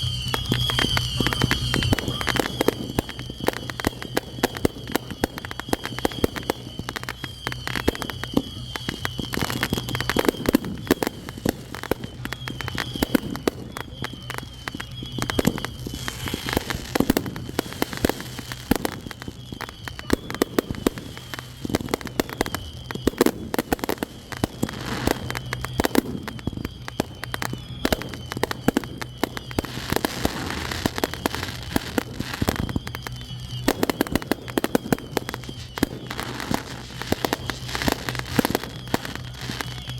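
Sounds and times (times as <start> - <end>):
fireworks bangs: 0.0 - 39.9
fireworks popping and crackling: 0.0 - 39.9.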